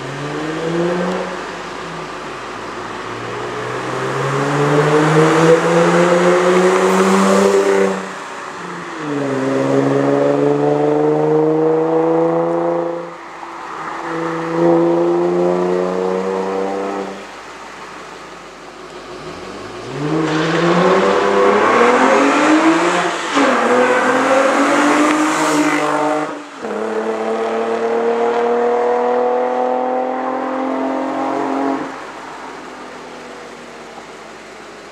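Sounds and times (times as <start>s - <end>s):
car engine accelerating through gears: 0.0s - 17.4s, 18.9s - 32.0s.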